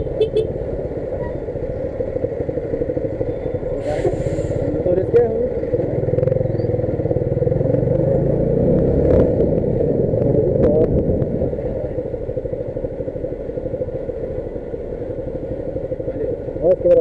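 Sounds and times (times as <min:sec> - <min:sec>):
motorcycle engine running: 0:00.0 - 0:04.0, 0:04.7 - 0:17.0.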